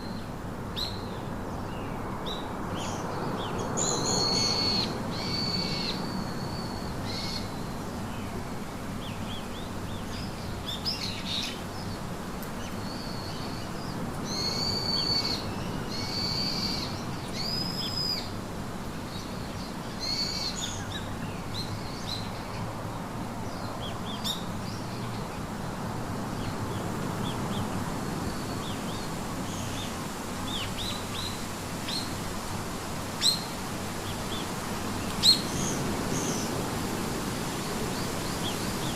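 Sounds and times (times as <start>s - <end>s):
songbirds calling: 0.0s - 38.9s
steady background hiss: 0.0s - 38.9s.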